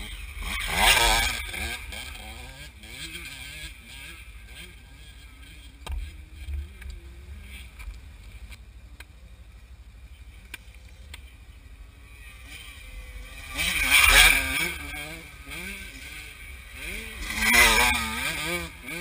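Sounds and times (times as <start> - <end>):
dirt bike engine revving: 0.0 - 8.5, 11.4 - 19.0.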